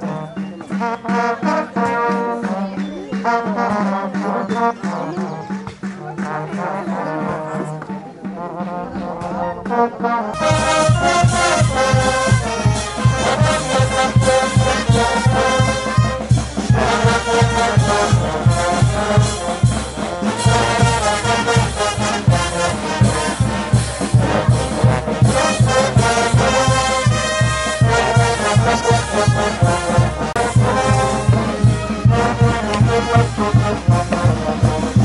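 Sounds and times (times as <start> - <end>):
steady drum beat: 0.0 - 35.0
wind instruments melody: 0.0 - 35.0.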